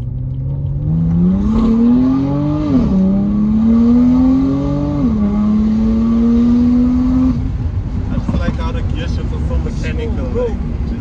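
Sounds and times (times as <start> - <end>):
car engine accelerating with upshifts: 0.0 - 11.0.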